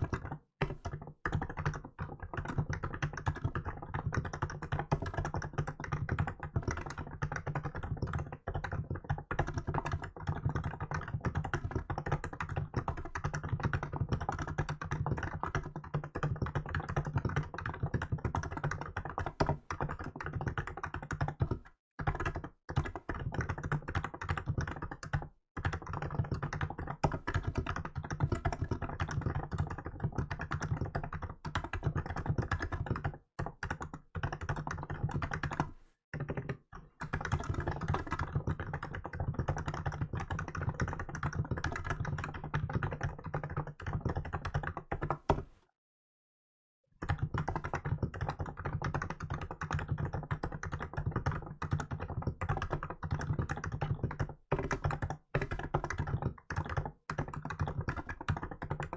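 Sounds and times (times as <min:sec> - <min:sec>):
keyboard typing: 0:00.0 - 0:45.6, 0:47.0 - 0:58.9.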